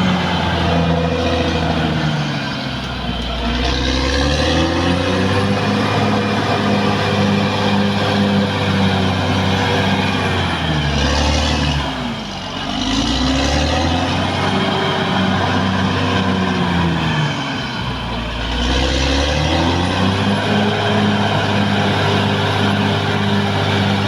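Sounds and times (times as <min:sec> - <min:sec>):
bulldozer diesel engine revving: 0:00.0 - 0:24.0.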